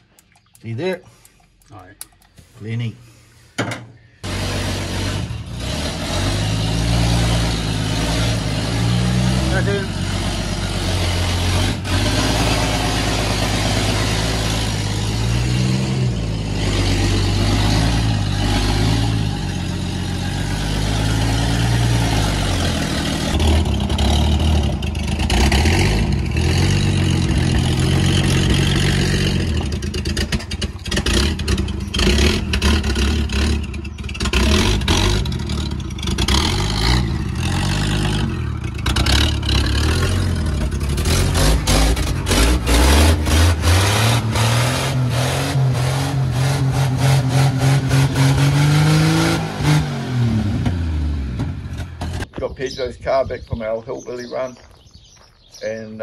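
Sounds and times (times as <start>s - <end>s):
car engine revving: 4.2s - 52.3s.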